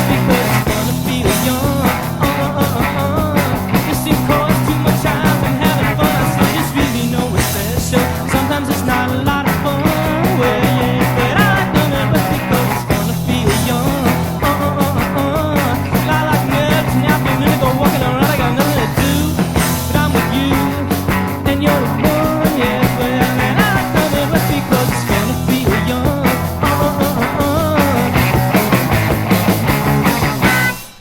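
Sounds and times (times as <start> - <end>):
punk rock band instrumental: 0.0 - 31.0.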